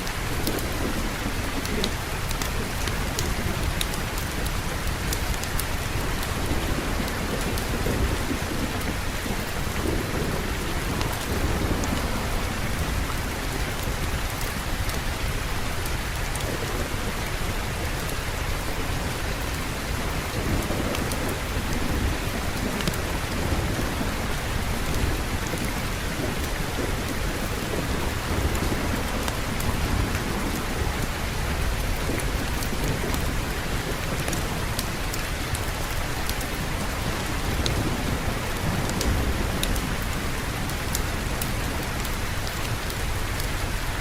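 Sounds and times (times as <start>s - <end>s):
heavy rain: 0.0s - 44.0s
low rolling thunder: 0.1s - 44.0s.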